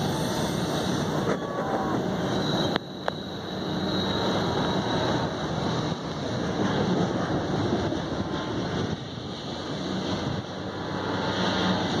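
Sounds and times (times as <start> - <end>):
vehicle rumble: 0.0 - 12.0
wind noise: 0.0 - 12.0.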